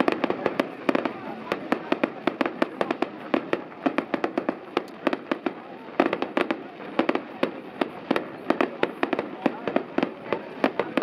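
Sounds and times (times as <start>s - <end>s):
continuous noisy background: 0.0s - 11.0s
fireworks bursting: 0.0s - 11.0s.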